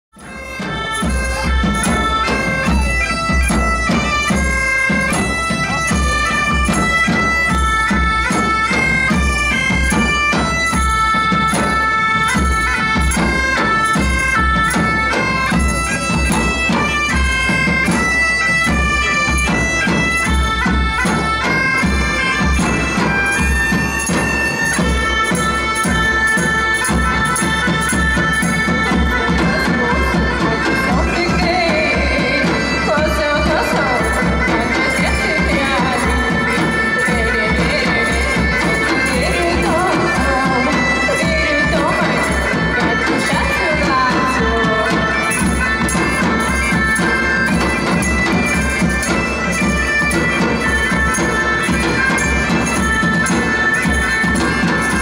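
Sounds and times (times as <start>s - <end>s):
bagpipes playing folk melody: 0.1s - 55.0s
large drums beating: 0.2s - 55.0s.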